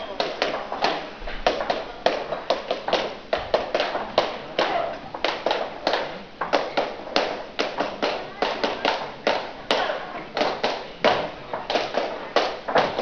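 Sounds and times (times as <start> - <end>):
sharp hand claps: 0.0 - 13.0.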